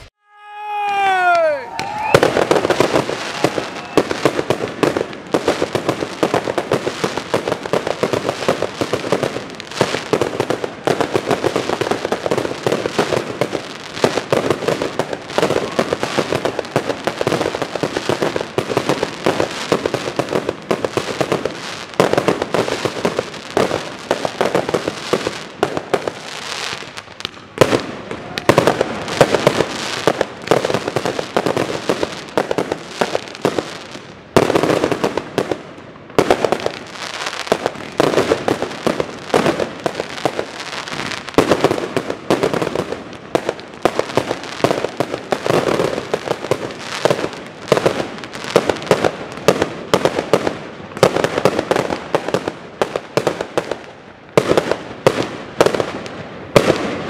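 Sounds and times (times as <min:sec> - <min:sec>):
fireworks bangs and crackle: 0:00.8 - 0:57.0.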